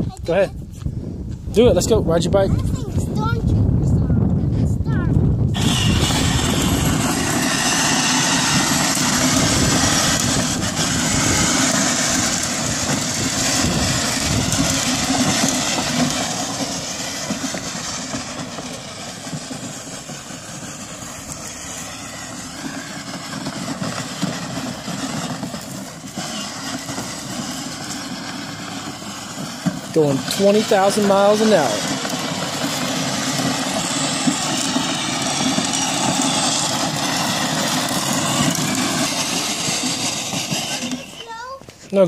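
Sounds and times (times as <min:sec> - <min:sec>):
toy ride-on motorcycle rumbling: 0:04.9 - 0:42.0.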